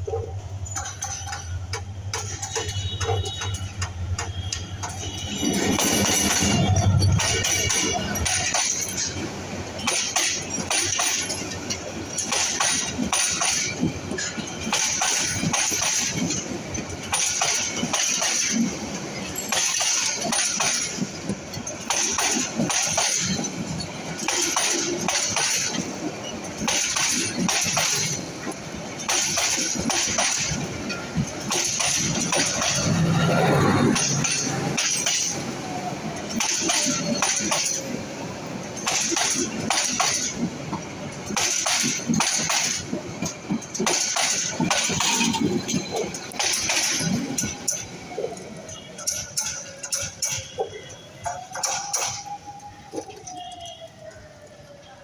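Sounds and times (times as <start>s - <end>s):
train wheels clacking over rail joints: 0.0s - 54.5s
steady train rumble: 0.0s - 55.0s.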